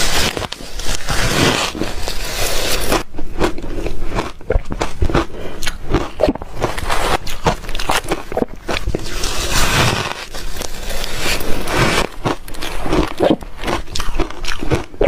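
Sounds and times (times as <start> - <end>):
ice cubes being chewed: 0.0 - 15.0.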